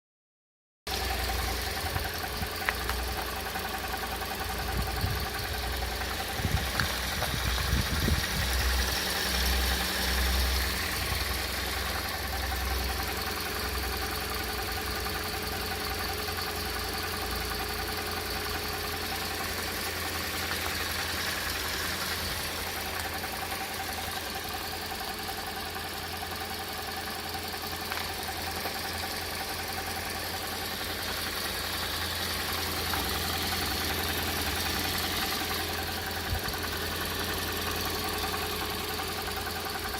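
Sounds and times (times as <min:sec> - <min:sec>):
car engine idling with knocking: 0:00.9 - 0:39.9.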